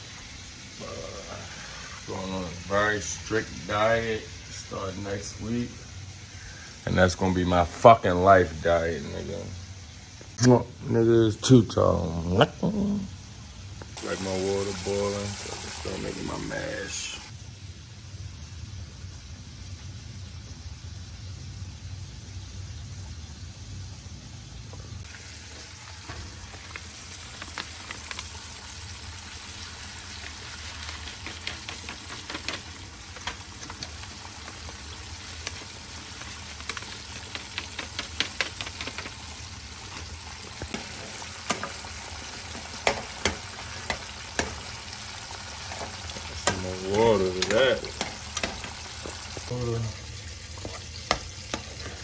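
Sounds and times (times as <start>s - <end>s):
sizzling hiss from stove: 0.0s - 52.0s.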